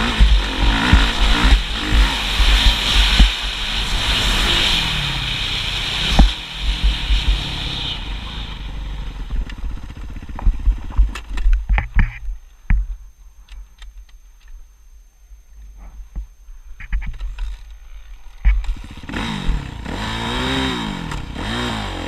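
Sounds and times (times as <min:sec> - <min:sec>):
motorcycle engine running: 0:00.0 - 0:13.0, 0:15.7 - 0:22.0.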